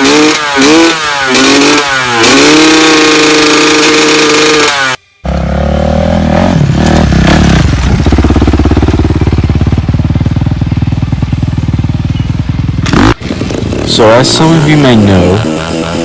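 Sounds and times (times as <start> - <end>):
dirt bike engine at high revs: 0.0 - 16.0
dirt bike engine throbbing at low revs: 0.0 - 16.0.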